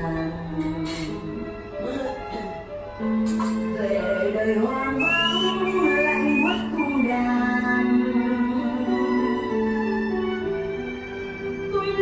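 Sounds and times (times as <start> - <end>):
slow melody of long held notes: 0.0 - 12.0.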